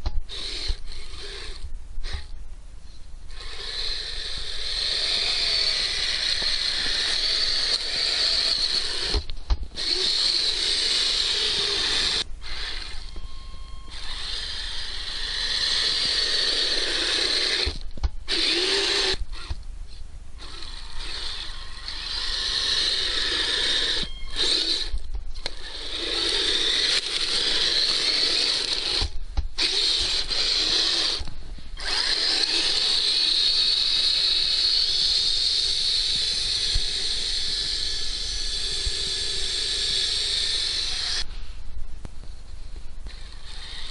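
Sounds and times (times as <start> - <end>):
toy car motor and gears whining: 0.0 - 2.3, 3.3 - 19.6, 20.4 - 41.4, 43.1 - 43.9.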